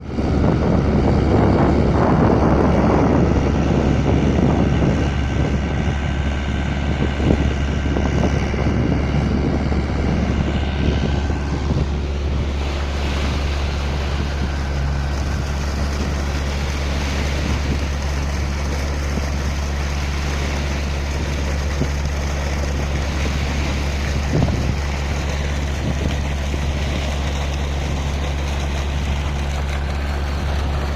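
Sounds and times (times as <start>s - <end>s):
engine humming: 0.0s - 30.9s.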